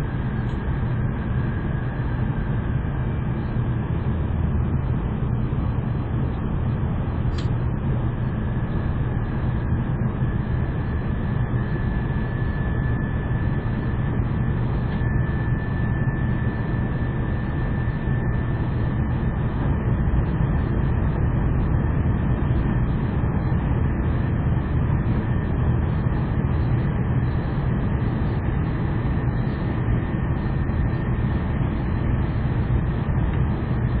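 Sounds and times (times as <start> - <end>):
faint high whine: 0.0 - 34.0.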